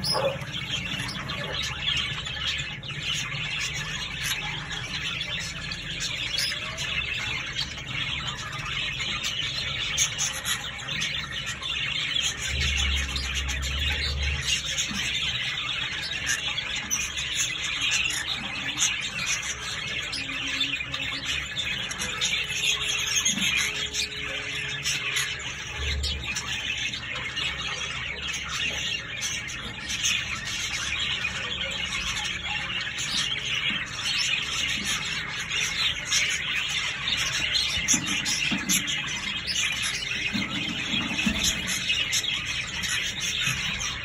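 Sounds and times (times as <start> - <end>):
parrots chattering: 0.0 - 44.0.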